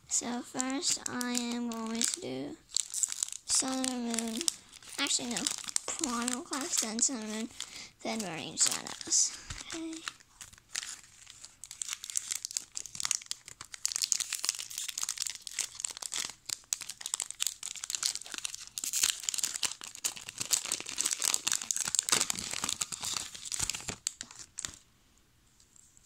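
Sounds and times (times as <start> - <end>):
foil wrapper crinkling and tearing: 0.1 - 24.8.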